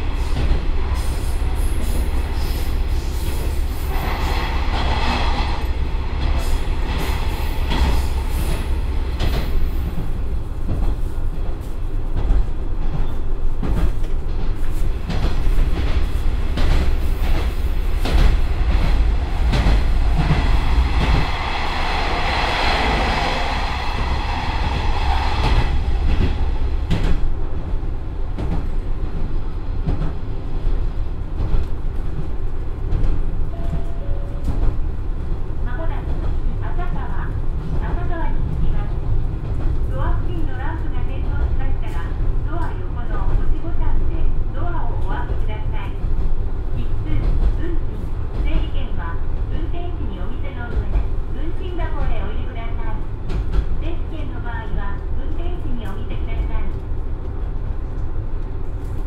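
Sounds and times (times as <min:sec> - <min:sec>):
train running gear rumble: 0:00.0 - 0:59.0.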